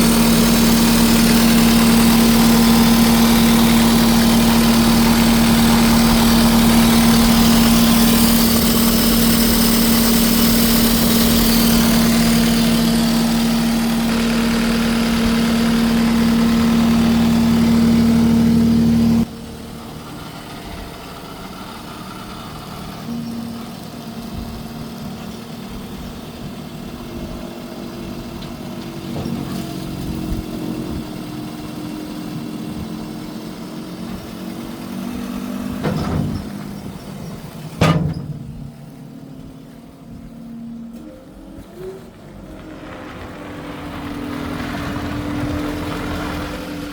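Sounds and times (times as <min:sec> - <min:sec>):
diesel engine humming: 0:00.0 - 0:46.9
quiet low engine running: 0:00.0 - 0:46.9.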